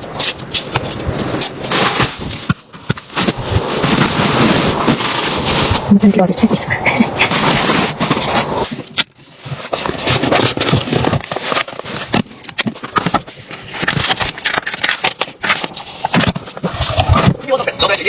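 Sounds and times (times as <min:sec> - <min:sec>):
crackling and clicking: 0:00.0 - 0:18.0
scraping: 0:00.0 - 0:18.0.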